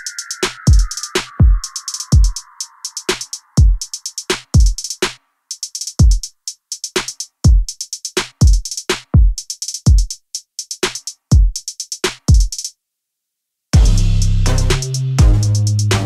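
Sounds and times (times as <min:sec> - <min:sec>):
drum machine beat: 0:00.0 - 0:12.7, 0:13.8 - 0:16.0.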